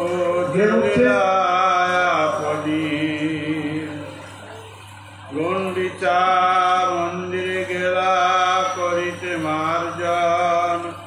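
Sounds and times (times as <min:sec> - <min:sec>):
man chanting: 0:00.0 - 0:04.4, 0:05.3 - 0:11.0.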